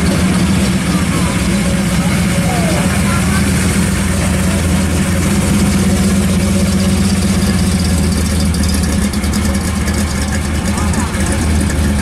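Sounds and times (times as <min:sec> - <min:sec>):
car exhaust idling: 0:00.0 - 0:12.0.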